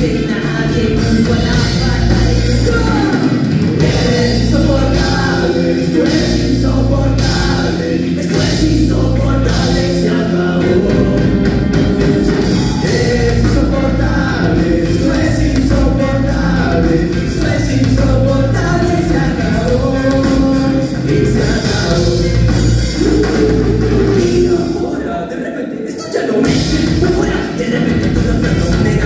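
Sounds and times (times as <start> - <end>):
rock band playing: 0.0 - 25.3, 26.0 - 29.0
person singing: 0.0 - 29.0.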